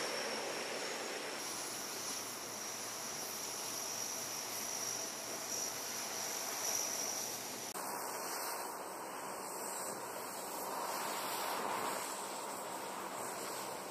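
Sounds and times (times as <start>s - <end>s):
high engine whine: 0.0s - 13.9s
turboprop engines running: 0.0s - 13.9s.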